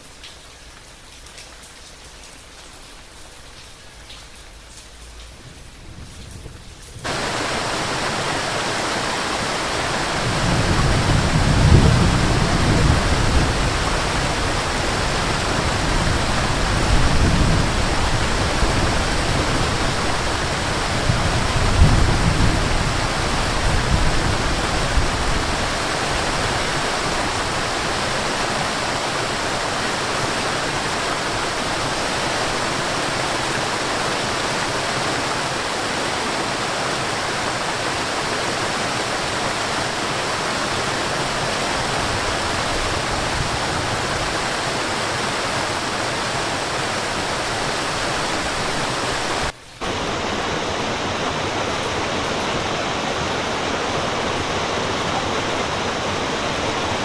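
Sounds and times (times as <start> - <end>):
waterfall rushing: 7.0 - 57.0.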